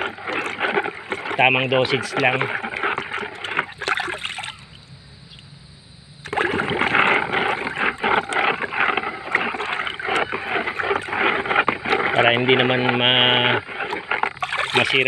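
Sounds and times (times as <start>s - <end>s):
water sloshing in plastic basin: 0.0s - 4.8s, 6.2s - 15.0s.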